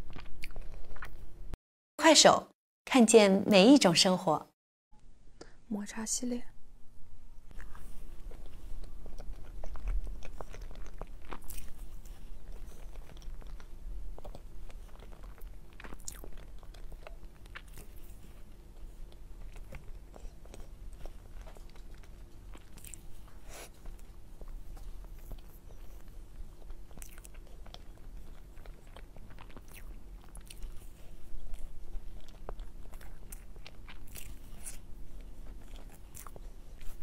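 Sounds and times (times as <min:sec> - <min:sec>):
chewing with mouth clicks: 0:00.1 - 0:01.2, 0:07.5 - 0:37.0.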